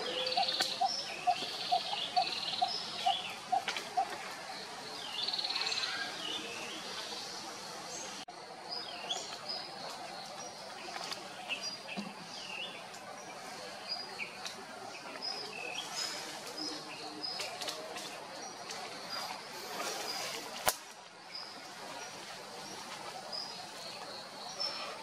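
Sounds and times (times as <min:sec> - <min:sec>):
small birds chirping: 0:00.0 - 0:25.0
steady background hiss: 0:00.0 - 0:25.0.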